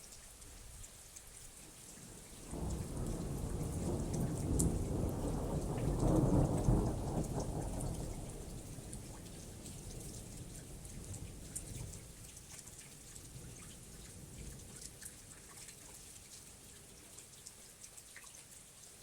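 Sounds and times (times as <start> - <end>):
raindrop ticks: 0.0 - 18.7
rain falling: 0.0 - 19.0.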